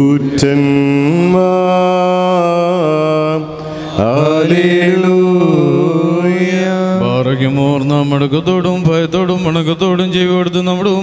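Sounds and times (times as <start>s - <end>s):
liturgical hymn chanted: 0.0s - 11.0s.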